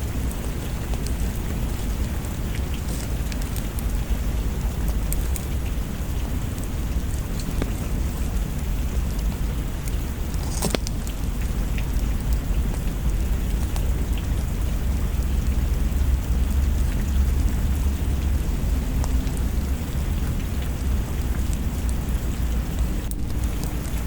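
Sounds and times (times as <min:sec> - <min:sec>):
steady rain: 0:00.0 - 0:24.0
wood fire crackling: 0:00.0 - 0:24.0.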